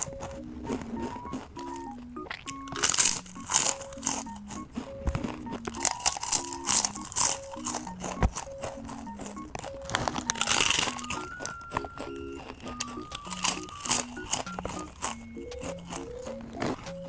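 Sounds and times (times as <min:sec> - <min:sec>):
crunching potato chips: 0:00.0 - 0:17.0
light background music: 0:00.0 - 0:17.0.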